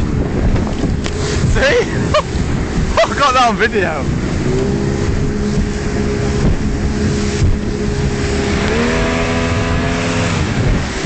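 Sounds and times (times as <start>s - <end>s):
rush of water and wind: 0.0s - 11.0s
speedboat engine running: 0.0s - 11.0s.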